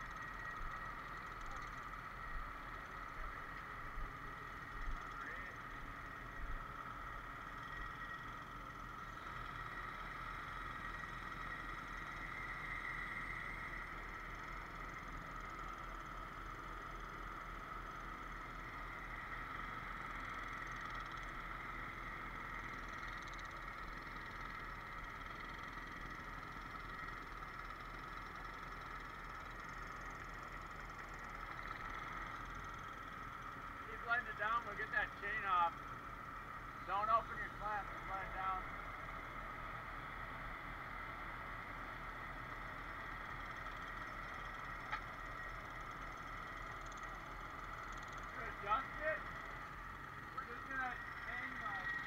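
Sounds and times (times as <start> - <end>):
truck engine drone: 0.0 - 52.0.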